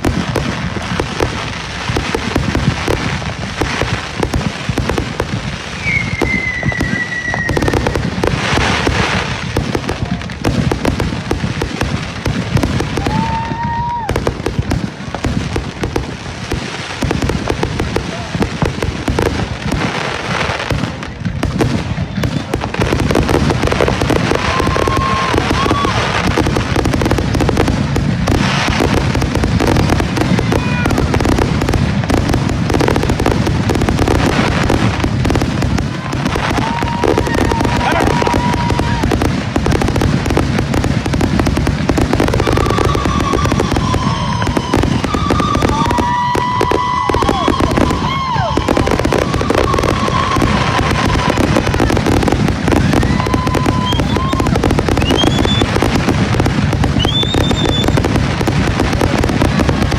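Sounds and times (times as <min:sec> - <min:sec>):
fireworks bangs and crackling: 0:00.0 - 0:59.9
fireworks whistling: 0:00.0 - 0:59.9.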